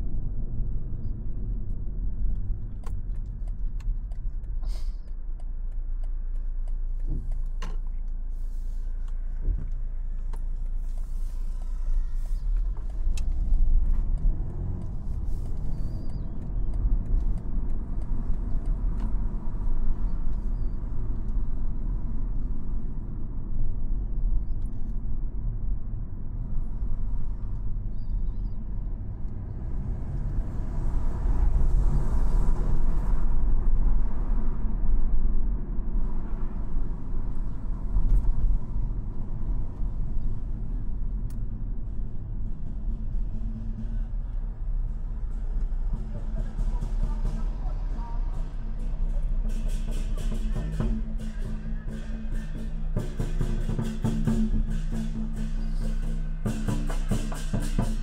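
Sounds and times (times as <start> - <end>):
car engine rumble: 0.0 - 58.0
tyres on road: 0.0 - 58.0.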